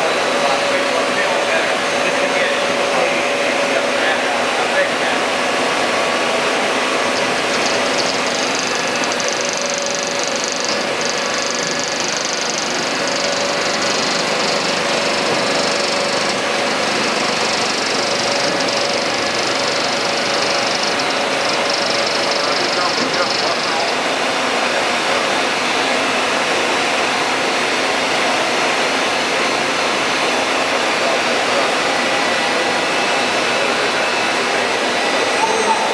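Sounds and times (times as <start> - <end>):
industrial machinery whirring hum: 0.0 - 35.9.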